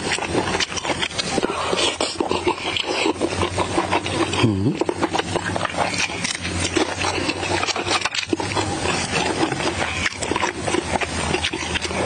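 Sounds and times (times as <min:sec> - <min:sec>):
wet chewing and mouth smacking: 0:00.0 - 0:12.0.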